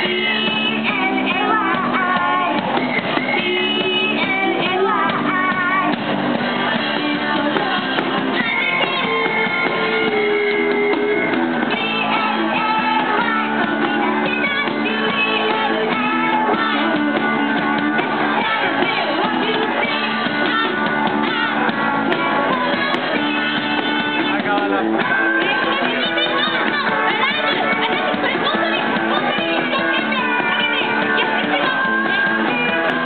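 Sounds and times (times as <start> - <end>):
drum kit: 0.0 - 33.0
electric guitars: 0.0 - 33.0
girl singing into a microphone: 0.0 - 33.0.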